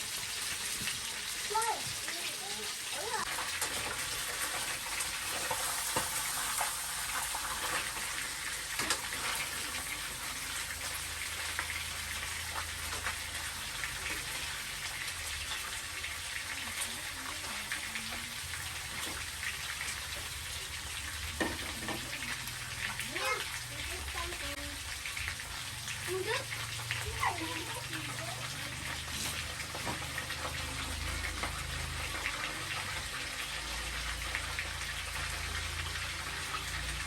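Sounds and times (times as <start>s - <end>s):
fish sizzling in oil: 0.0s - 37.0s
oil popping and crackling: 0.0s - 37.0s.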